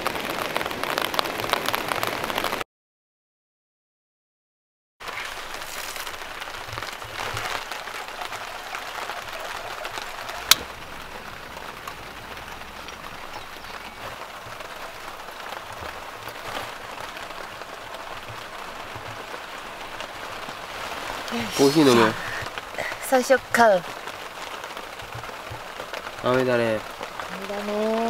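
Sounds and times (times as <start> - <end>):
steady rain falling: 0.0 - 2.6, 5.0 - 28.0.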